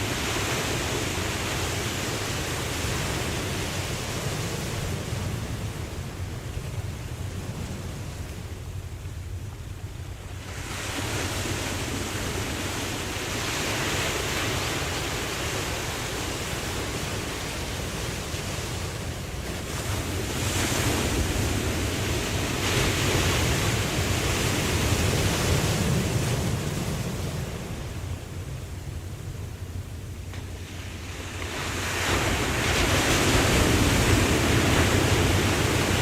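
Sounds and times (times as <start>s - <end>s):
ocean waves washing in: 0.0s - 36.0s
wind: 0.0s - 36.0s.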